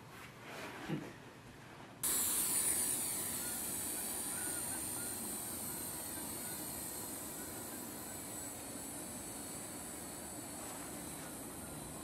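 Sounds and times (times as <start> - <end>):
quadcopter motors whirring: 2.0 - 12.0.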